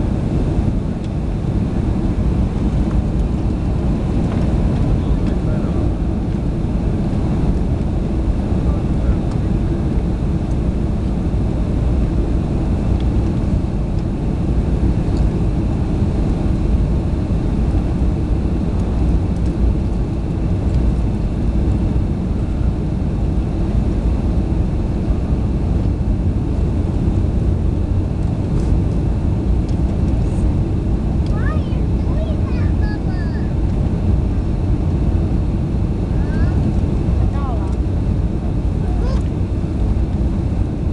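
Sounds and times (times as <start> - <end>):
airliner engine rumble: 0.0 - 40.9.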